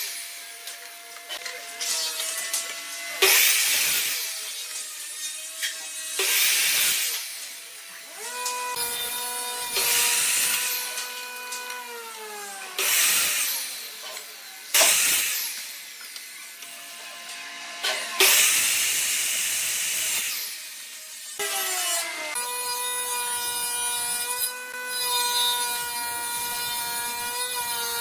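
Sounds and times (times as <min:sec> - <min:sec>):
miter saw cutting wood: 0:00.0 - 0:28.0
saw motor whine: 0:00.0 - 0:28.0.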